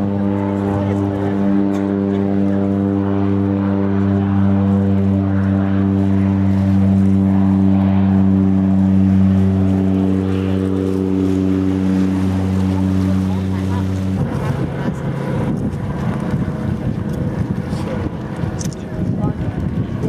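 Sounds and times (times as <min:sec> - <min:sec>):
propeller engine droning: 0:00.0 - 0:20.0.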